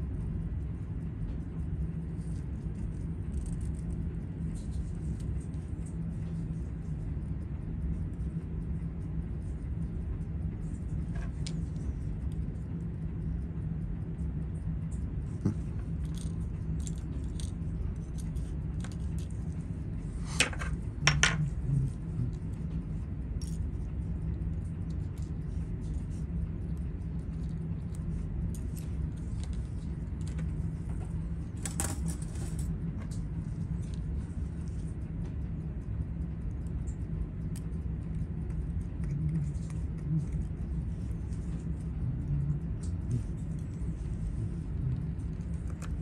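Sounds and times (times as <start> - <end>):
low hum: 0.0 - 46.0.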